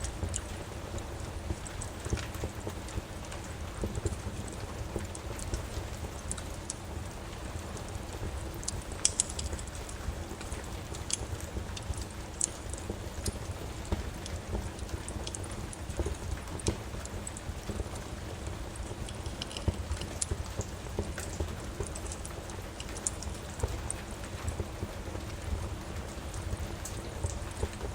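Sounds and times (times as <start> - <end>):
steady rain: 0.0 - 27.9
wood fire crackling: 0.0 - 27.9.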